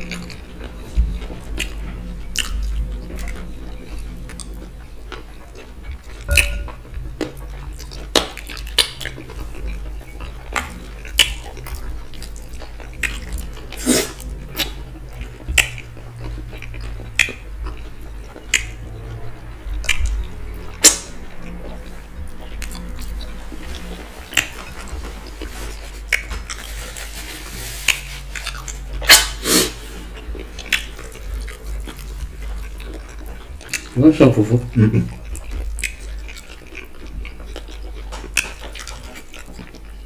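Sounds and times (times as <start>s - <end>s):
wet chewing smacks: 0.0s - 19.1s, 22.3s - 26.7s, 27.9s - 34.0s, 35.0s - 39.9s.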